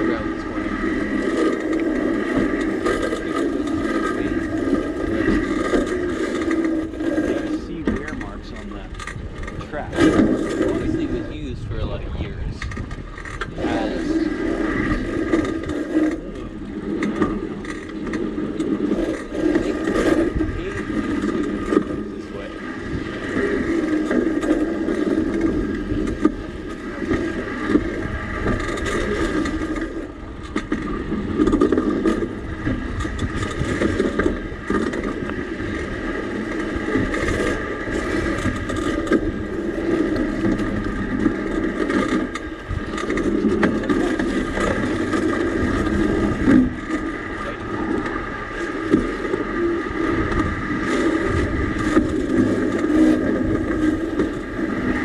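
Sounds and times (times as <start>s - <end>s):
railbike rolling on steel rails: 0.0s - 55.0s.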